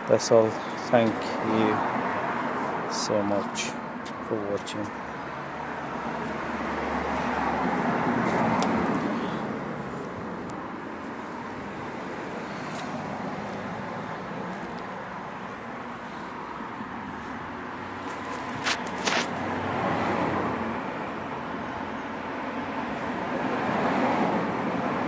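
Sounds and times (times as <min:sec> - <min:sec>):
distant traffic: 0:00.0 - 0:25.0
road vehicle passing: 0:00.0 - 0:25.0.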